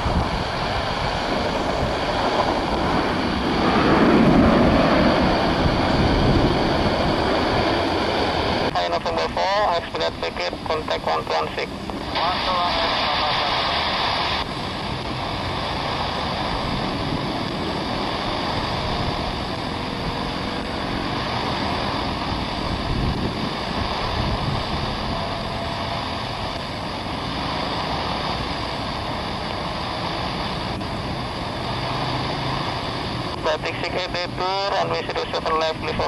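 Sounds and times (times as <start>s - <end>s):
jet engines of taxiing airliner: 0.0s - 36.0s.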